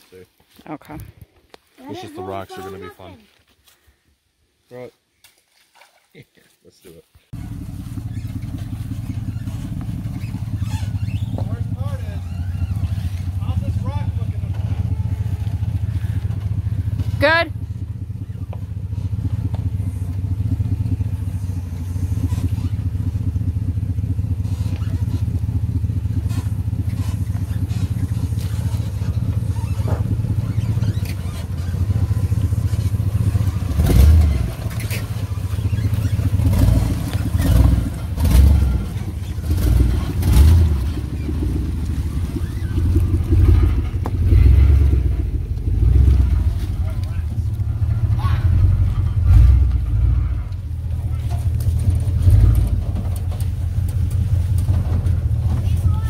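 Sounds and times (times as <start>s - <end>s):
pickup truck engine crawling: 7.3s - 56.0s.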